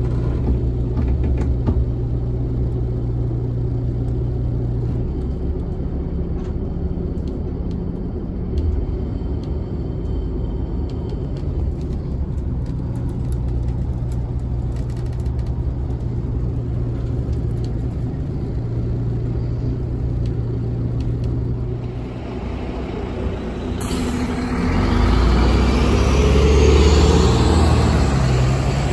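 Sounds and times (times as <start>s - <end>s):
bus engine rumble inside cabin: 0.0s - 28.9s
bus passing by outside: 0.0s - 28.9s.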